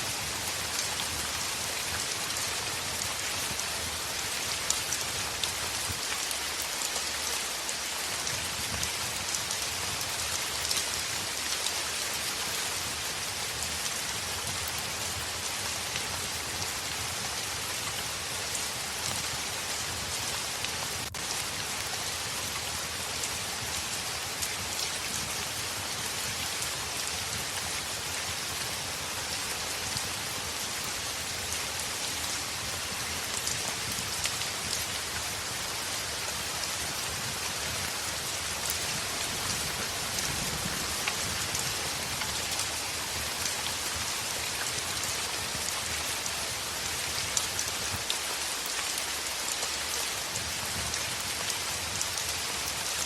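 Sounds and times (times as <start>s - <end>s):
heavy rain on a window: 0.0s - 53.0s.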